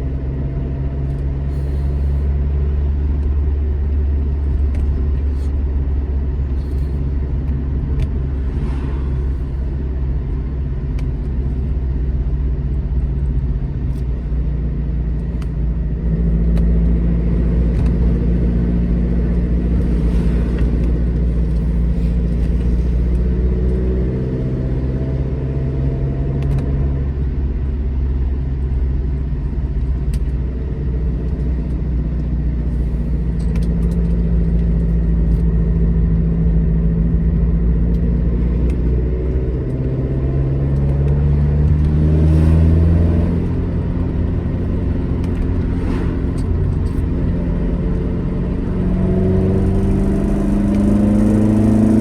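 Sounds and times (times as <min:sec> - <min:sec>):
car engine drone accelerating: 0:00.0 - 0:52.0.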